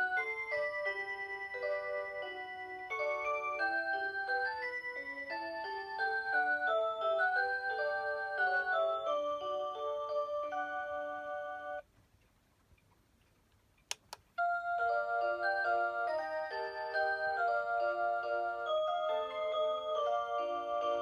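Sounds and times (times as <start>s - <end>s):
alarm clock electronic melody: 0.0s - 11.8s, 14.4s - 21.0s.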